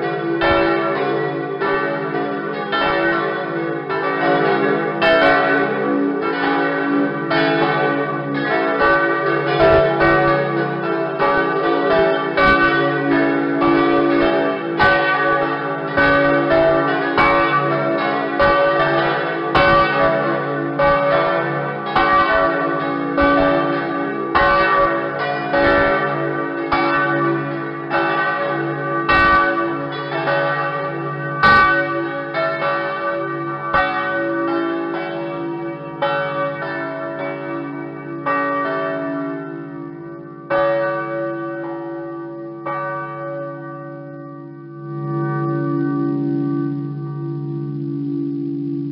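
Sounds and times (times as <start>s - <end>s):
church bells ringing: 0.0s - 48.2s.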